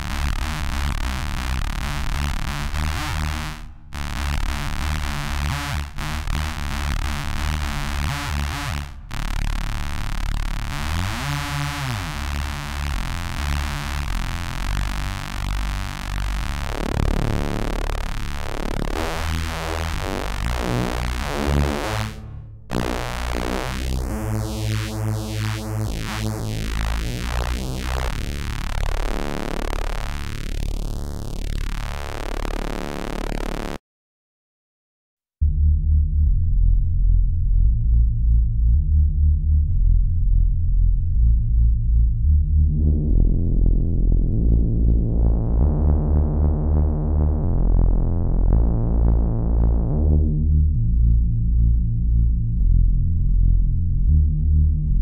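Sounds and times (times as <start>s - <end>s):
synthesizer bass notes with phasing: 0.0s - 33.8s, 35.4s - 55.0s.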